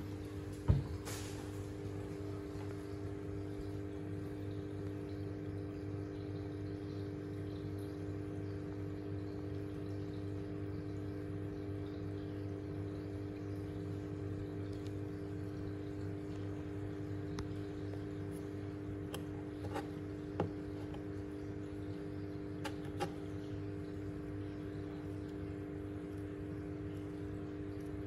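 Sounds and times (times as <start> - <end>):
aquarium pump humming: 0.0 - 28.0.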